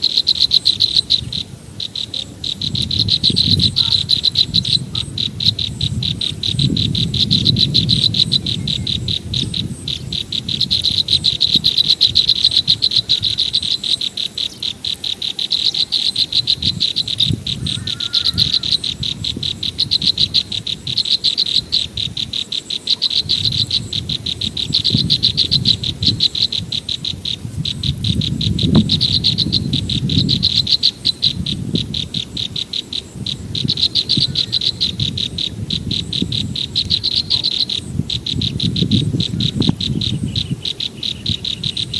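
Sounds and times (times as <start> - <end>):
high pulsing animal trills: 0.0 - 41.9.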